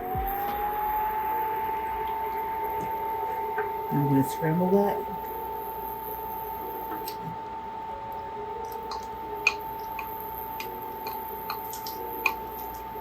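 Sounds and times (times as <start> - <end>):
steady high hum: 0.0 - 13.0.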